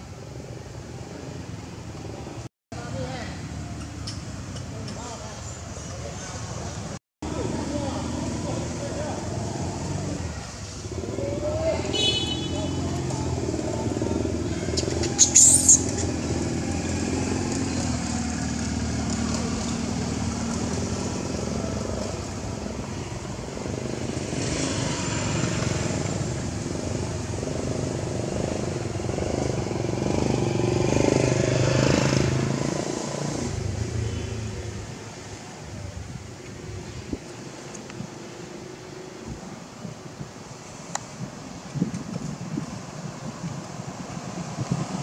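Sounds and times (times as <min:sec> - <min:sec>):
vehicle engine rumbling: 0:00.0 - 0:45.0.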